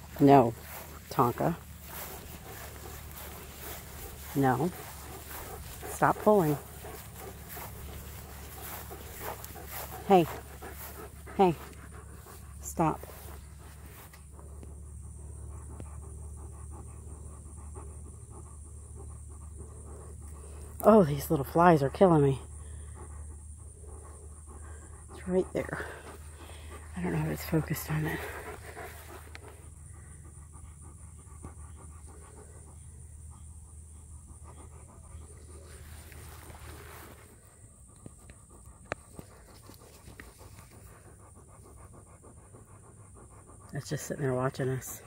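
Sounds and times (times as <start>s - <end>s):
dog panting: 0.0s - 45.0s.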